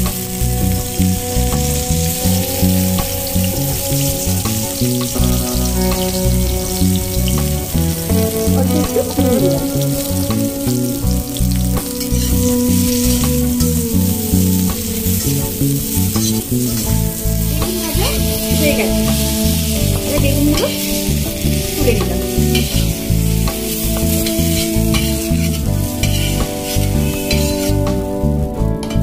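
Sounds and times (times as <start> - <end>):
eggplant sizzling in hot oil: 0.0 - 28.3.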